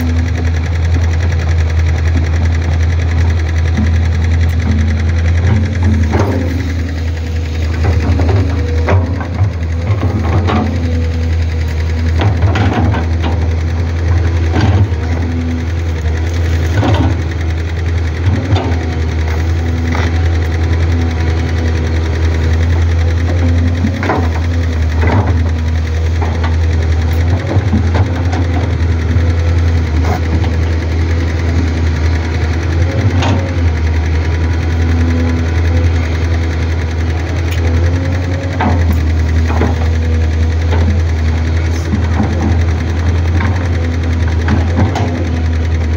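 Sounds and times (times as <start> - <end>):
excavator diesel engine running: 0.0 - 45.9
hydraulic whine: 0.0 - 45.9.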